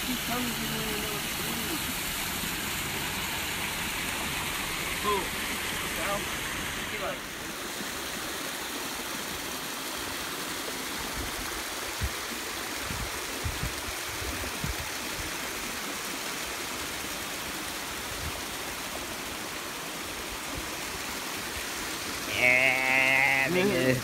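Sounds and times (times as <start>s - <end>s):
creek water rushing over rocks: 0.0s - 24.0s.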